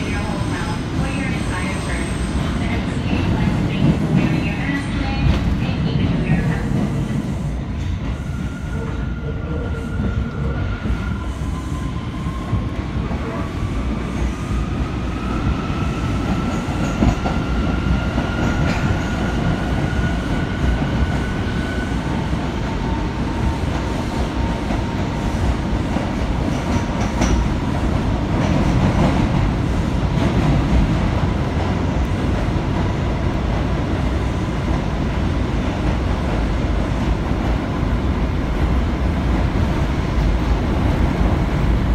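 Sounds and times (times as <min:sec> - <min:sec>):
train wheels rumbling on track: 0:00.0 - 0:41.9.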